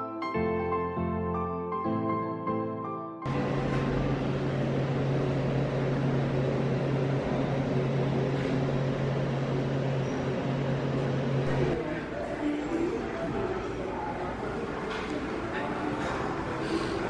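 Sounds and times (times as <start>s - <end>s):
air conditioner humming: 3.3s - 17.0s.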